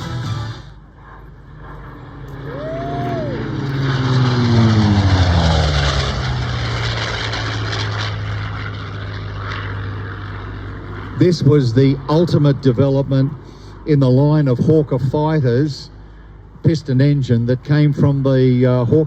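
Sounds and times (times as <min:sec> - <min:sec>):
propeller plane passing by: 0:00.0 - 0:19.0.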